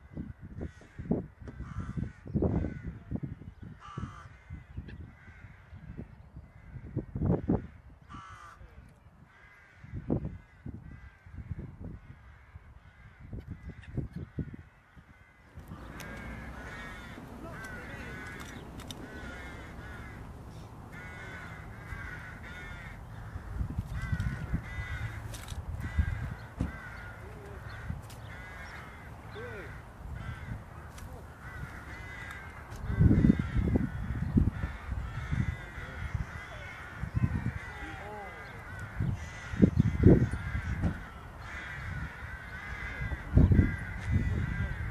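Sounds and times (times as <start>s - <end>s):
crows cawing: 0.0s - 44.9s
steady outdoor hiss: 0.0s - 44.9s.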